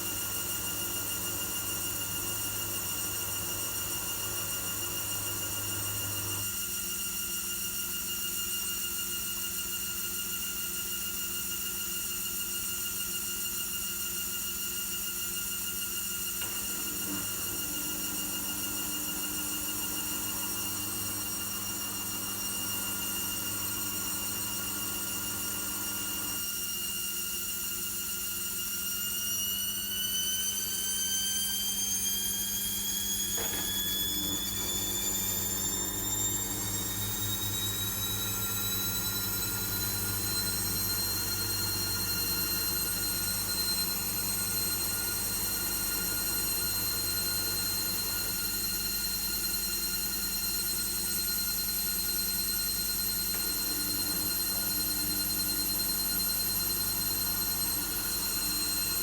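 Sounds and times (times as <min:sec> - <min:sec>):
washing machine motor whining: 0:00.0 - 0:07.1, 0:15.5 - 0:59.0.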